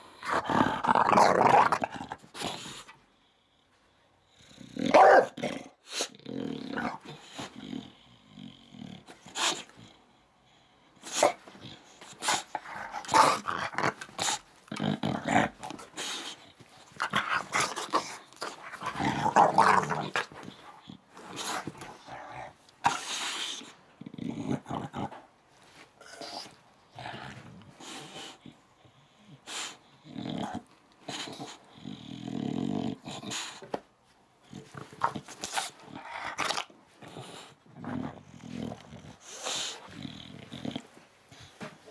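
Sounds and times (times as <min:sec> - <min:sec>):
dog growling and grumbling: 0:00.1 - 0:02.9, 0:04.3 - 0:10.0, 0:11.0 - 0:33.7, 0:34.4 - 0:41.9.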